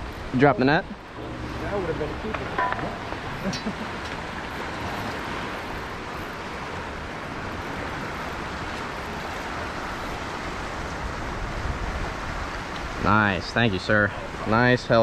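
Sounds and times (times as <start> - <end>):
surf: 0.0 - 15.0
wind: 0.0 - 15.0
wind rumbling on microphone: 0.0 - 15.0.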